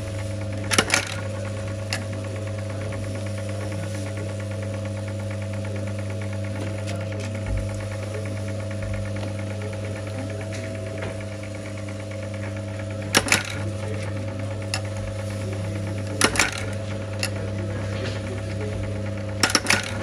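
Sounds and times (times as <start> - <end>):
press motor humming: 0.0 - 20.0.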